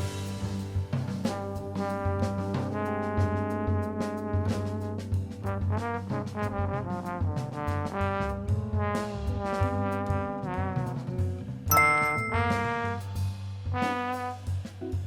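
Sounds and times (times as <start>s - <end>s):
drums: 0.0s - 15.0s.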